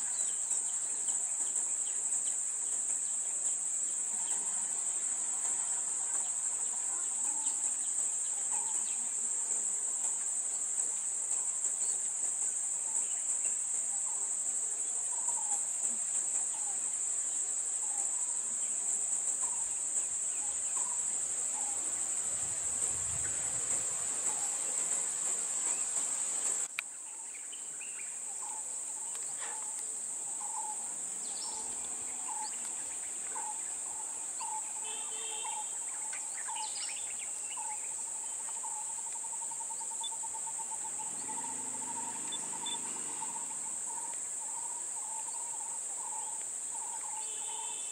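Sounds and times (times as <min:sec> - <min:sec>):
faint chirps: 0:00.0 - 0:47.9
high-pitched insect chorus: 0:00.0 - 0:47.9.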